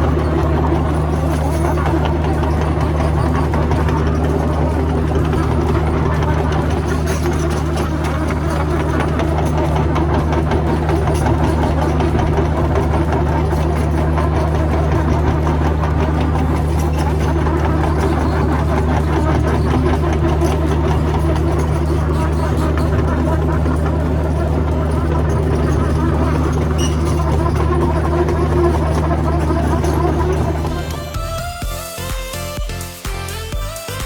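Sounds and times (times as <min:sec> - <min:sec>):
backhoe engine idling: 0:00.0 - 0:32.9.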